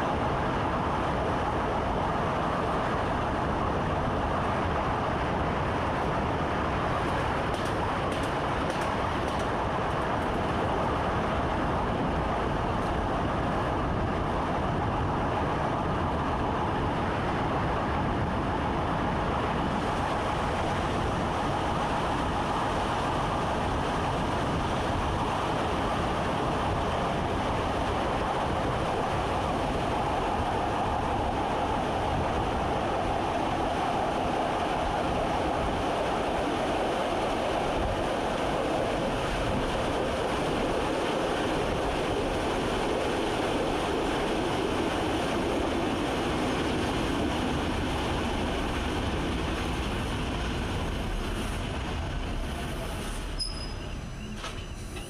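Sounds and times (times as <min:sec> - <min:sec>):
train rumble and rail noise: 0:00.0 - 0:55.0.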